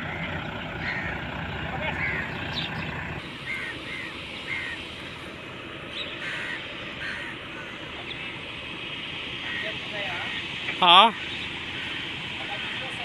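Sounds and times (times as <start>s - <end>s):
birds calling harshly: 0.0s - 13.0s
low engine rumble: 0.0s - 13.0s.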